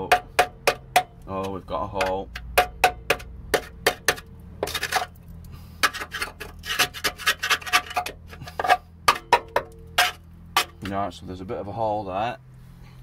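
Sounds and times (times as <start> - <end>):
screwdriver scraping rusted steel: 0.0 - 10.9.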